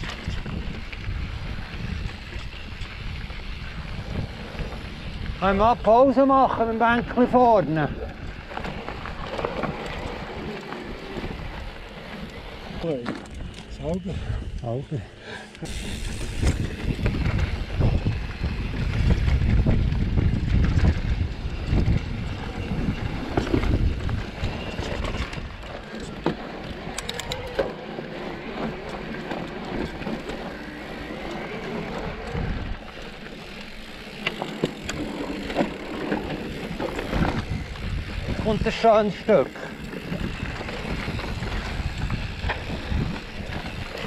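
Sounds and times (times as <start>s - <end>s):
bike rattles: 0.0s - 44.0s
bike tyre rolling noise: 0.0s - 44.0s
wind rumbling on microphone: 0.0s - 44.0s.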